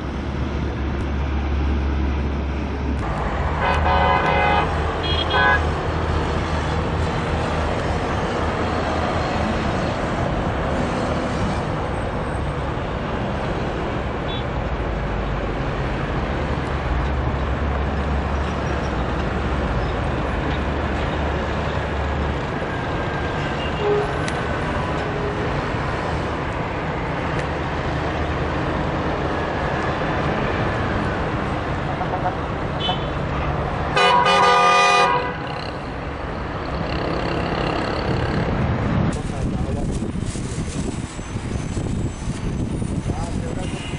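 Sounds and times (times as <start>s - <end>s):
bus engine rumbling: 0.0s - 43.9s
traffic noise: 0.0s - 43.9s.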